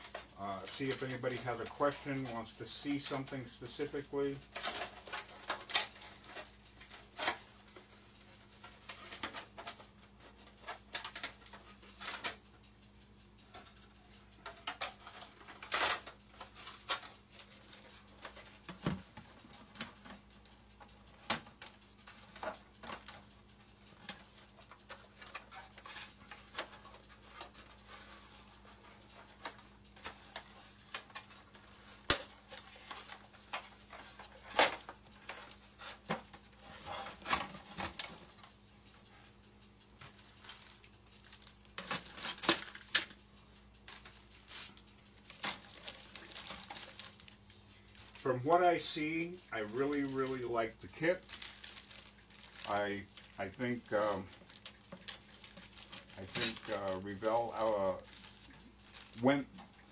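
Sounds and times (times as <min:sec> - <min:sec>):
plastic parts clicking and tapping: 0:00.0 - 0:12.5, 0:13.4 - 0:38.6, 0:40.0 - 0:48.2, 0:49.7 - 0:59.9.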